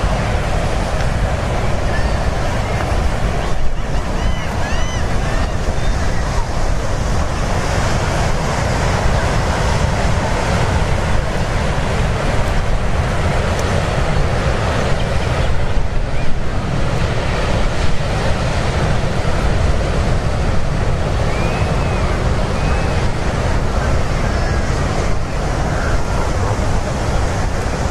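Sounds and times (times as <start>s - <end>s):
ocean surf washing onto beach: 0.0s - 27.9s
wind buffeting microphone: 0.0s - 27.9s.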